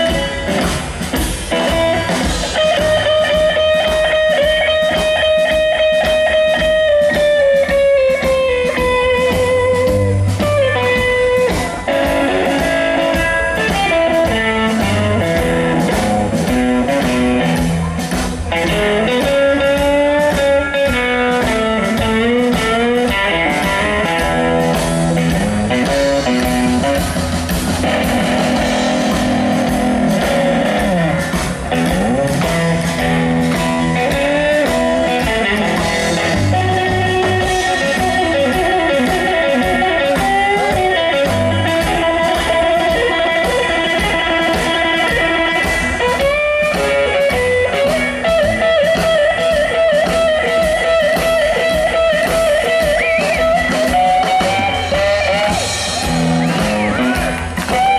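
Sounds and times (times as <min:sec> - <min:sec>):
electric guitar lead: 0:00.0 - 0:57.9
steady drum beat: 0:00.0 - 0:57.9
upright bass: 0:00.0 - 0:57.9.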